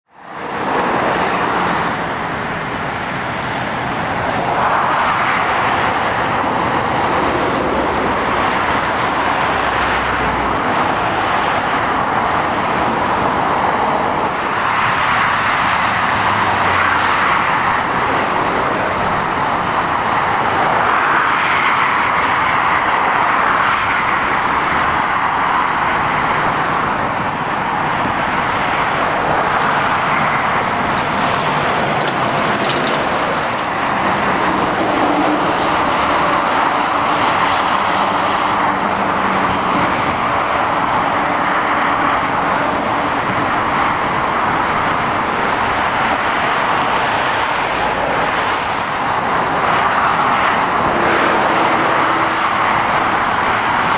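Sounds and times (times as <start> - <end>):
road traffic tyre roar: 0.0 - 53.9.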